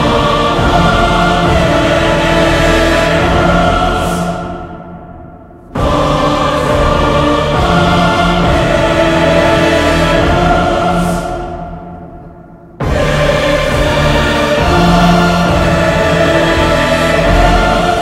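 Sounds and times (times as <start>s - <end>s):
choir-like voices singing chords: 0.0s - 18.0s.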